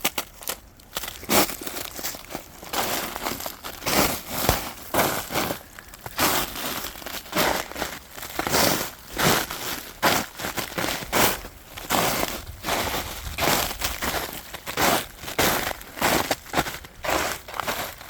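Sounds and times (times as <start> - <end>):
footsteps crunching on trail: 0.0 - 18.0.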